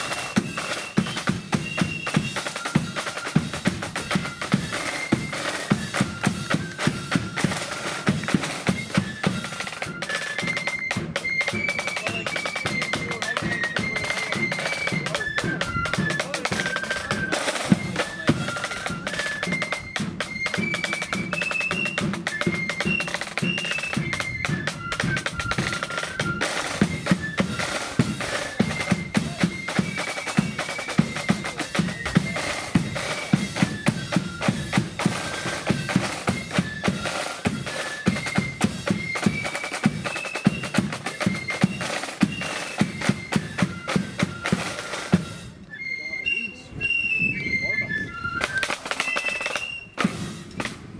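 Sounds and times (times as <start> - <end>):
snare drums rattling: 0.0 - 45.5, 48.4 - 50.9
flute band playing a march: 0.0 - 50.9.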